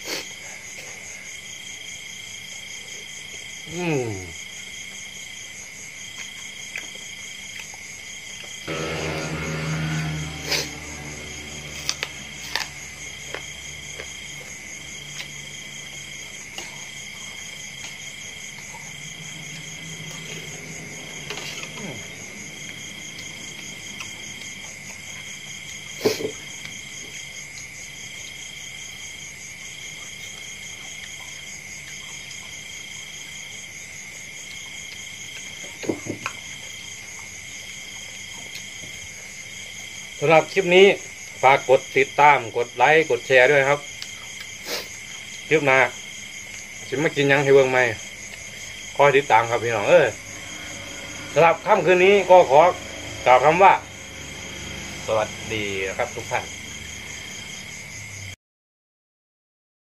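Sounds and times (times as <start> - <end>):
crickets chirping: 0.0 - 58.4.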